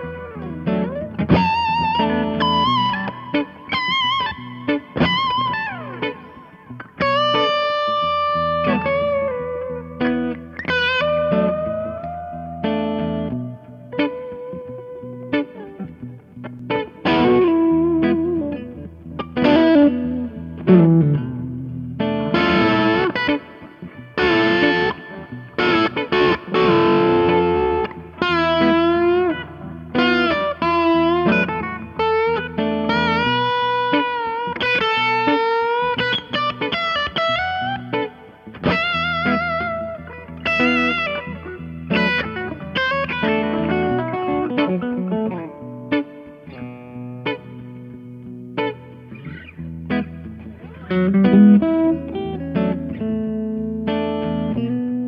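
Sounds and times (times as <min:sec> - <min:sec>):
electric guitar through an amp: 0:00.0 - 0:55.0.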